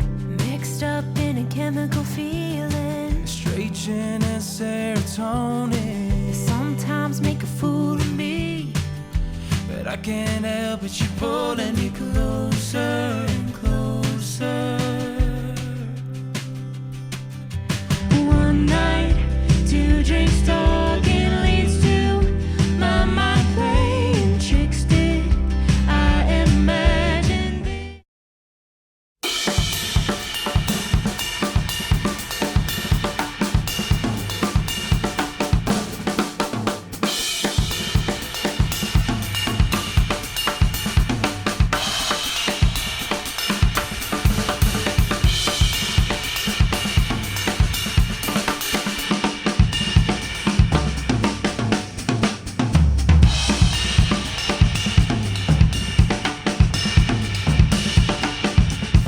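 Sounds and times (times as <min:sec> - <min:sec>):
drum kit playing a beat: 0:00.0 - 0:27.6, 0:29.2 - 0:59.0.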